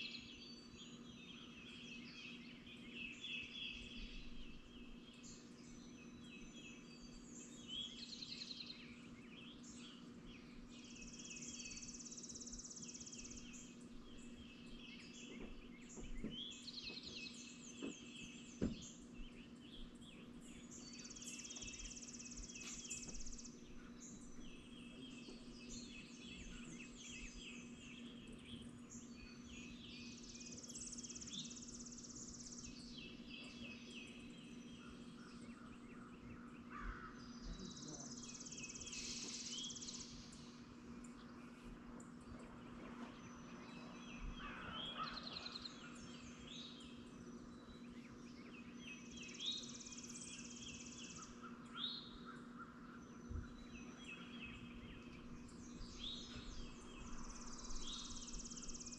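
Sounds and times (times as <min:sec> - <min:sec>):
birds trilling: 0:00.0 - 0:58.9
steady low hum: 0:00.1 - 0:58.9.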